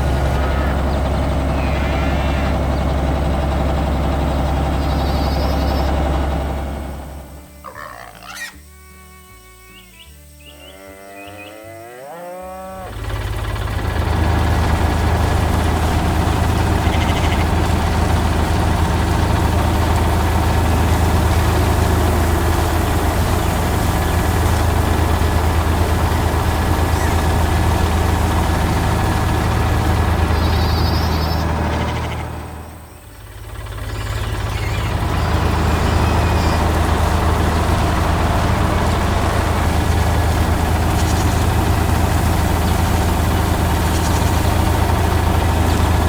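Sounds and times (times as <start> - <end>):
tractor engine running: 0.0 - 7.7, 12.8 - 46.0.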